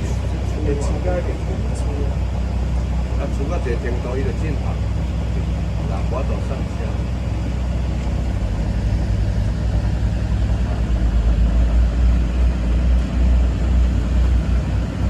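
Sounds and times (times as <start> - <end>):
motorboat engine rumbling: 0.0 - 15.0.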